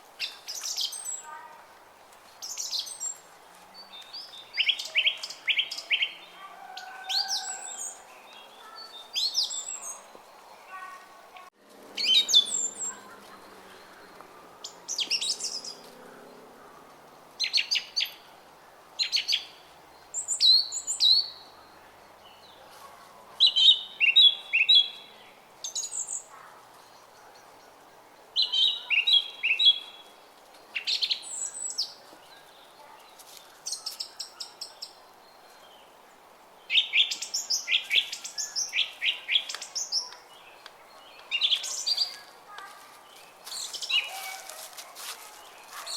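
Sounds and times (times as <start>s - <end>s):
songbirds singing and chirping: 0.0s - 45.9s.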